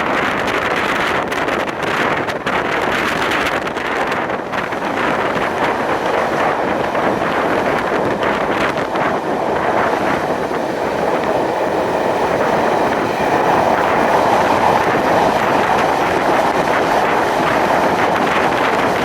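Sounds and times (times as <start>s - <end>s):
steam train rumbling on track: 0.0s - 19.0s
wind on microphone: 0.0s - 19.0s.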